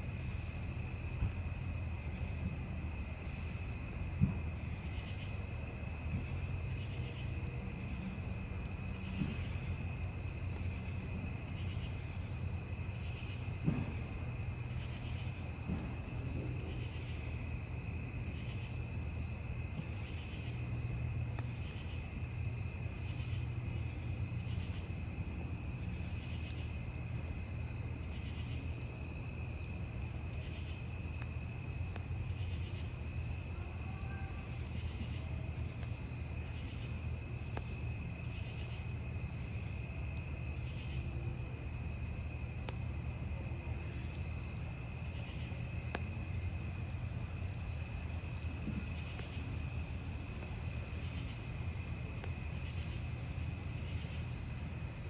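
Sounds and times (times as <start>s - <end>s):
campfire crackling: 0.0s - 55.0s
crickets trilling: 0.0s - 55.0s
high insect chirp: 0.3s - 55.0s.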